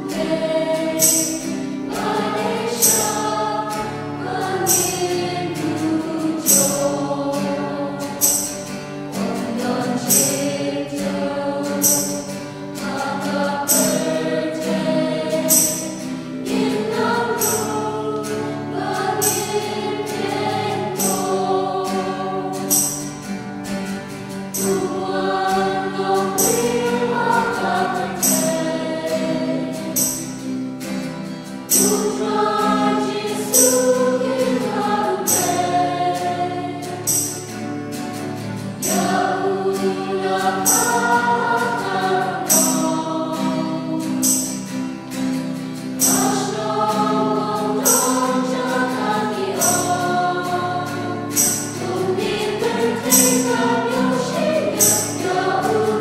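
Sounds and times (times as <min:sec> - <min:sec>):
young voices singing a hymn: 0:00.0 - 0:56.0.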